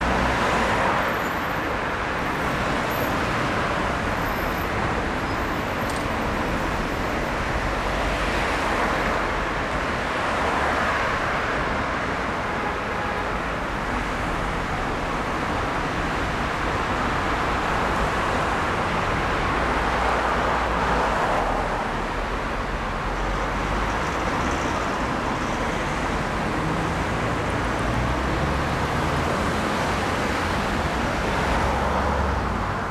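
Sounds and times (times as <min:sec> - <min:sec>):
road traffic rumble: 0:00.0 - 0:32.9.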